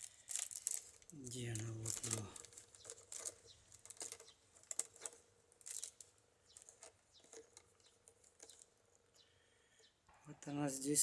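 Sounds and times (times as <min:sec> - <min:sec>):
wicker crackling and rustling: 0:00.0 - 0:09.1.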